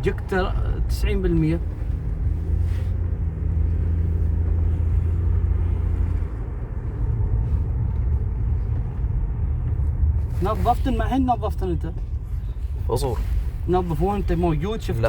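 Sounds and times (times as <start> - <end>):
engine running with low drone: 0.0 - 15.0.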